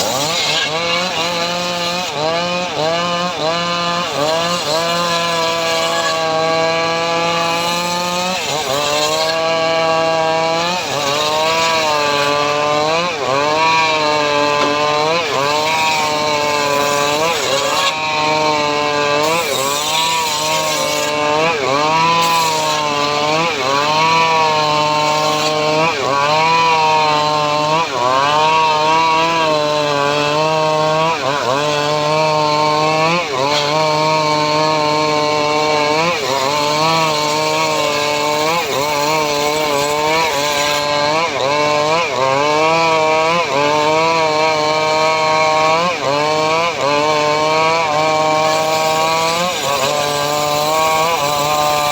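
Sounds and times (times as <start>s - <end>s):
saw cutting wood: 0.0s - 51.9s
sawmill engine running: 0.0s - 51.9s.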